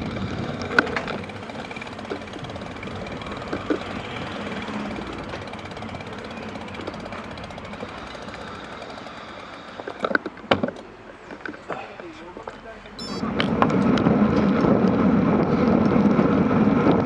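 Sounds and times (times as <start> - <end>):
engine running with rapid pulsing: 0.0 - 10.8, 12.9 - 17.0.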